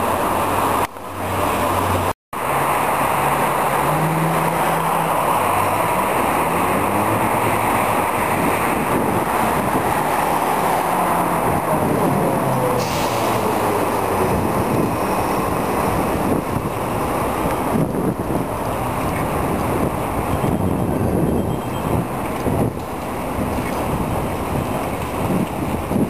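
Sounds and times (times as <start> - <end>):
car traffic: 0.0 - 26.0
wind rushing over microphone: 2.8 - 26.0.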